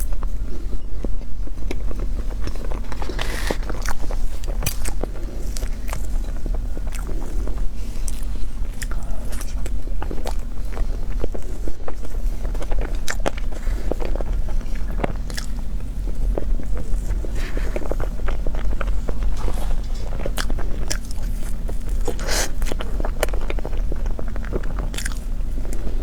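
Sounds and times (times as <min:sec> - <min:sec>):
chewing and crunching: 0:00.0 - 0:26.0
steady low hum: 0:00.0 - 0:26.0.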